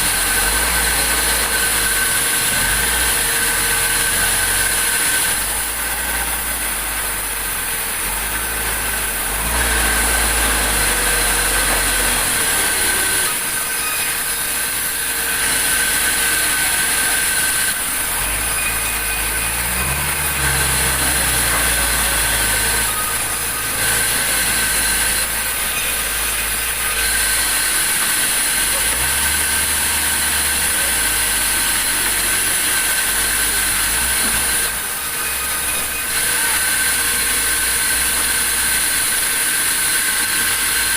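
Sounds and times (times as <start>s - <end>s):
sawmill machinery droning: 0.0s - 40.9s.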